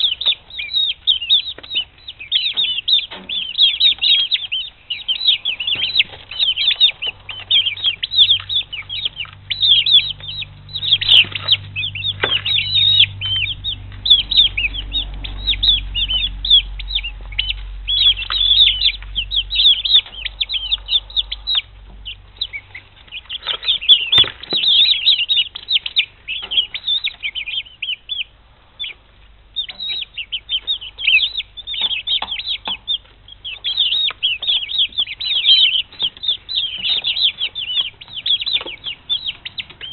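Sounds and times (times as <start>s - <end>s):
chicks peeping: 0.0s - 39.9s
low rumbling: 0.0s - 39.9s.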